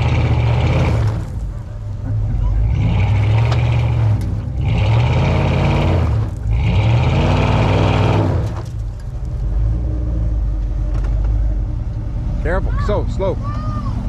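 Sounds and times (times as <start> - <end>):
jeep engine revving and idling: 0.0 - 14.0.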